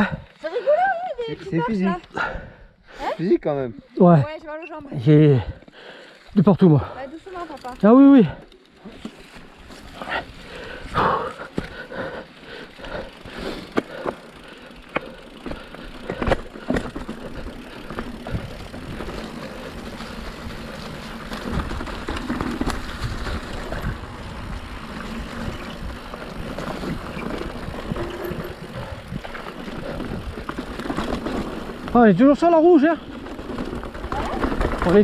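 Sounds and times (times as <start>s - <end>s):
bike rattling over bumps: 5.7s - 35.0s.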